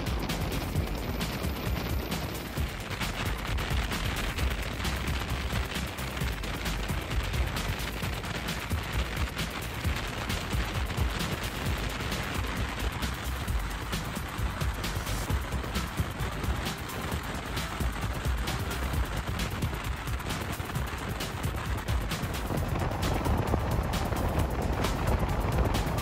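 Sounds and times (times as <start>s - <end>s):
train rumbling: 0.0s - 26.0s
wind buffeting microphone: 0.0s - 26.0s.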